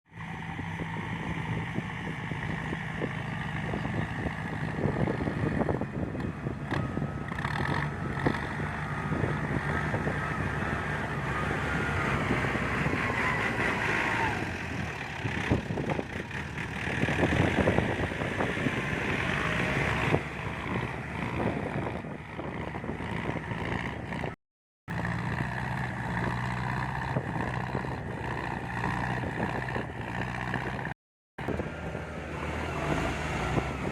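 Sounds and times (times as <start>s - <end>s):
tractor engine under load: 0.2s - 33.9s.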